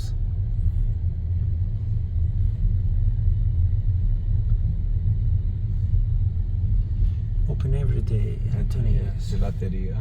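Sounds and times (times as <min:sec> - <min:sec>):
vehicle road noise rumble: 0:00.0 - 0:10.0.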